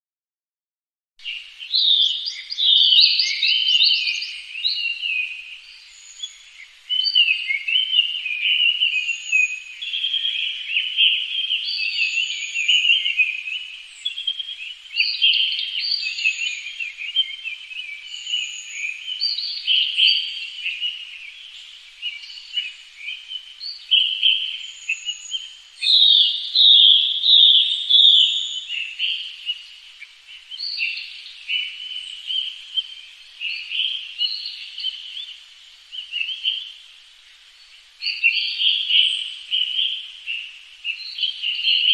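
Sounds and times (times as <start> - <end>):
songbirds chorus: 1.2 - 41.9.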